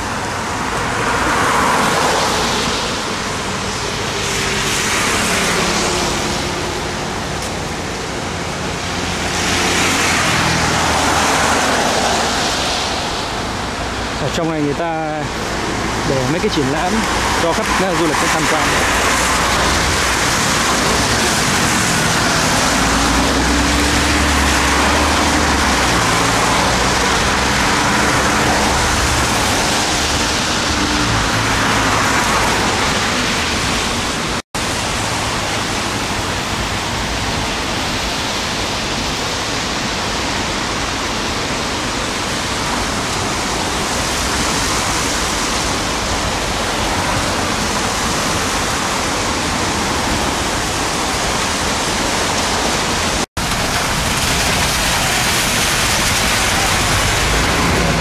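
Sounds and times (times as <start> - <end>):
passing car and bus engines: 0.0 - 58.0
tyres hissing on wet road: 0.0 - 58.0.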